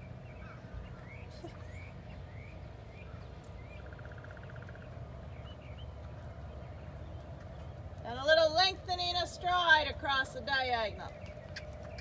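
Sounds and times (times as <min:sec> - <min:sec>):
birds chirping and trilling: 0:00.0 - 0:08.4, 0:10.5 - 0:12.0.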